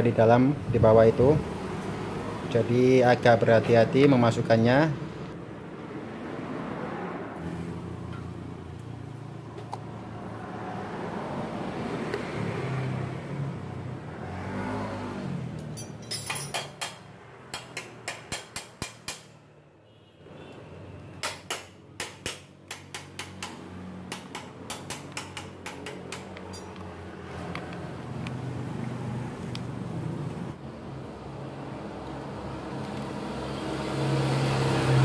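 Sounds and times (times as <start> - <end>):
traffic rumbling: 0.0 - 35.0.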